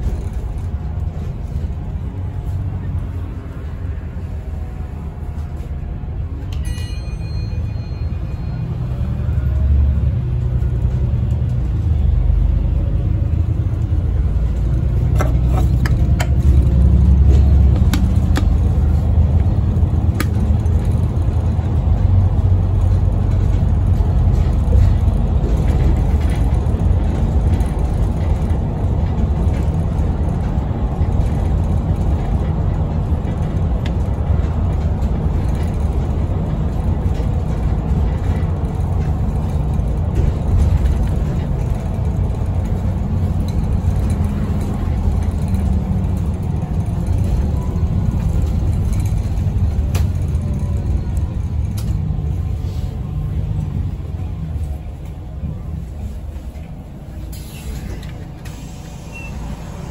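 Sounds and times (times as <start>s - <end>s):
bus drivetrain drone: 0.0s - 59.9s
road rumble: 0.0s - 59.9s.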